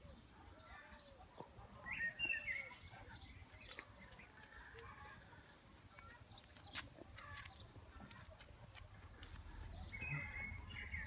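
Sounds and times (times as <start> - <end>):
birds chirping and singing: 0.0 - 8.0, 9.0 - 11.0.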